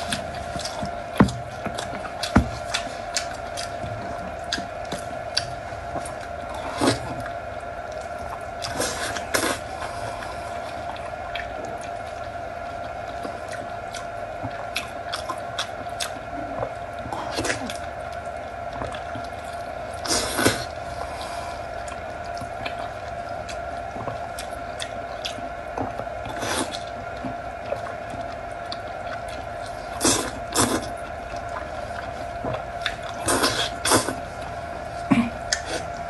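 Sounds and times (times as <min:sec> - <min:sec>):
wet chewing and lip-smacking: 0:00.0 - 0:12.2, 0:12.8 - 0:34.2, 0:35.5 - 0:36.0
faint steady hum: 0:00.0 - 0:36.0.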